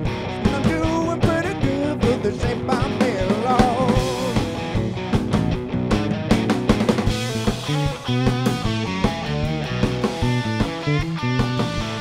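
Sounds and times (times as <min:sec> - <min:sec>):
electric guitars: 0:00.0 - 0:12.0
steady drum beat: 0:00.0 - 0:12.0
wavering lead guitar line: 0:00.0 - 0:12.0.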